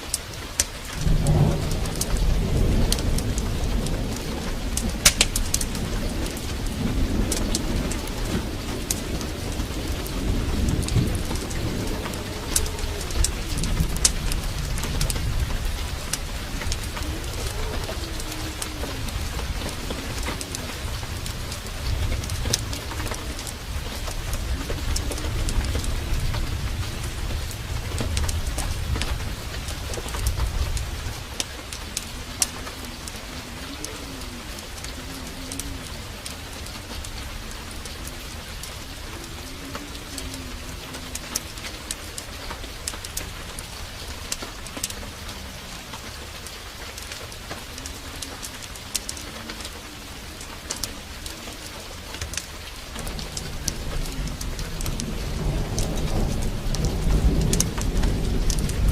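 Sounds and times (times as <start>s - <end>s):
heavy rain pouring: 0.0s - 58.9s
sharp crackles: 0.0s - 58.9s
thunder rumbling: 0.0s - 58.9s.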